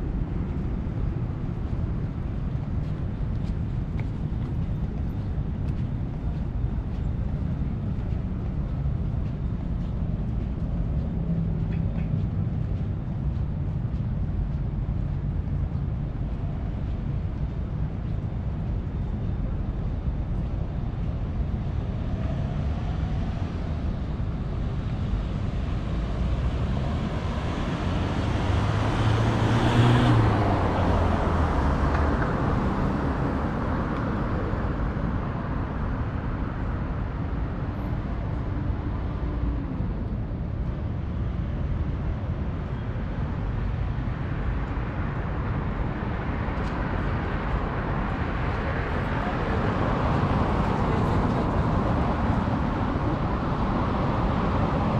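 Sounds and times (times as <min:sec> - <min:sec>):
hum of passing cars: 0:00.0 - 0:54.9.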